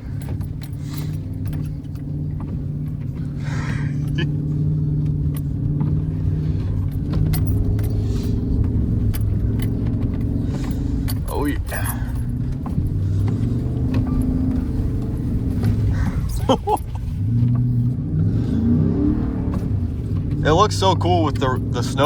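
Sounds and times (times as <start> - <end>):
light clicks and rattles: 0.0 - 17.9
vehicle engine running: 0.0 - 22.0.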